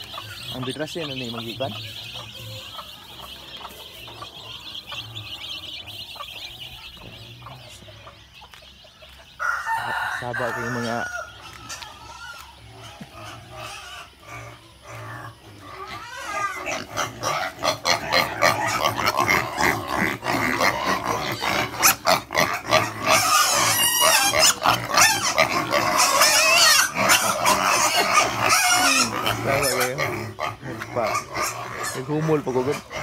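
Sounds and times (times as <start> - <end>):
piglets squealing: 0.0 - 7.4, 9.9 - 33.0.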